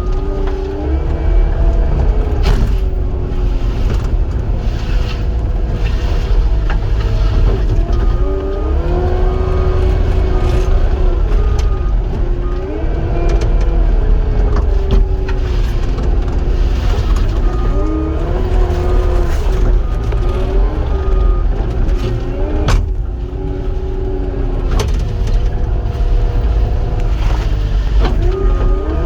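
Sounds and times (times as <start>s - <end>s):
diesel engine rumbling: 0.0s - 29.0s
hydraulic whine: 0.0s - 29.0s.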